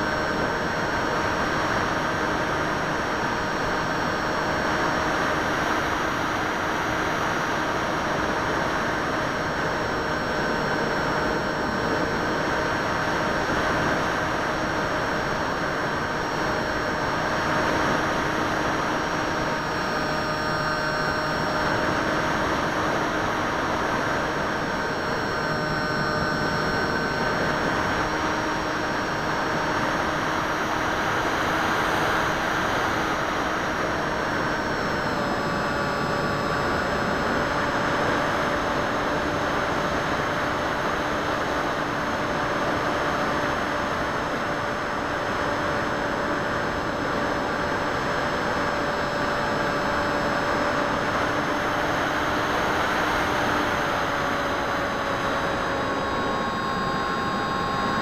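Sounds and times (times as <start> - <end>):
electric motor and propeller whine: 0.0 - 58.0.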